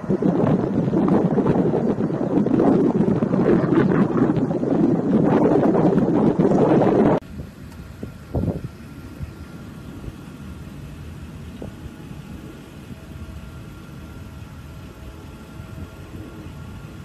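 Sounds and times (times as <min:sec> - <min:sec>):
distant jet engines rumbling: 0:00.0 - 0:17.0
rush of noise: 0:00.0 - 0:17.0.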